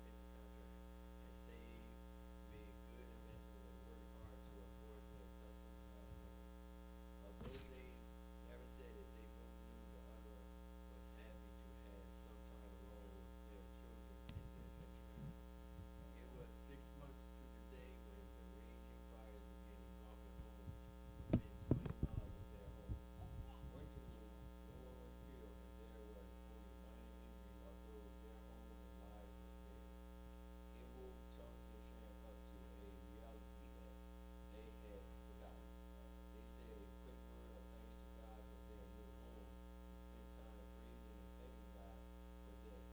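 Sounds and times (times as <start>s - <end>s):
faint mains hum: 0.0s - 42.9s.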